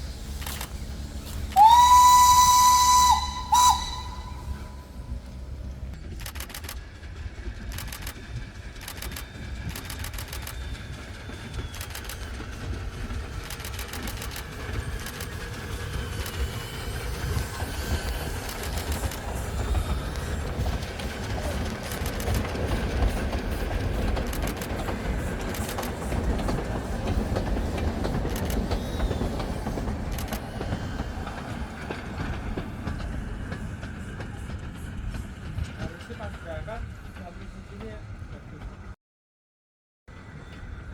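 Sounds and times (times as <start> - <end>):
train rumbling: 0.0 - 39.0, 40.1 - 40.9
train wheels clicking over rail joints: 0.0 - 39.0.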